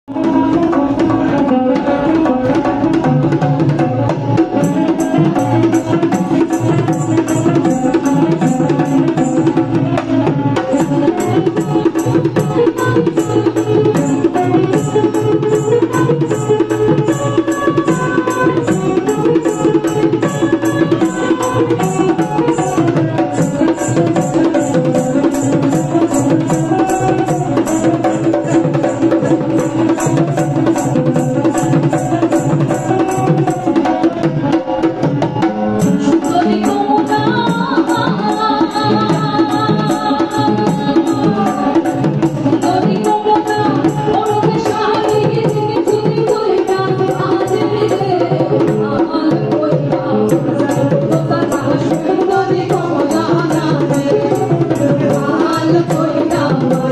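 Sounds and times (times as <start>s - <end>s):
hand drum fast beat: 0.1s - 56.9s.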